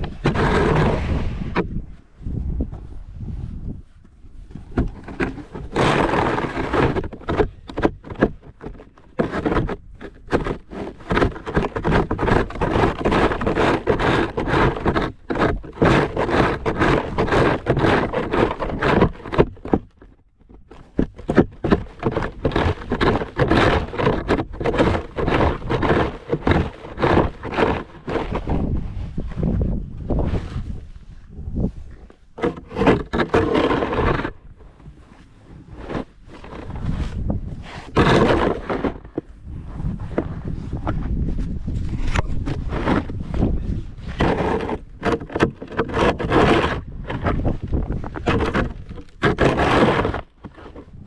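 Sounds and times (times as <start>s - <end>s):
snow shovel scraping driveway: 0.0s - 1.7s, 4.4s - 19.9s, 20.8s - 51.0s.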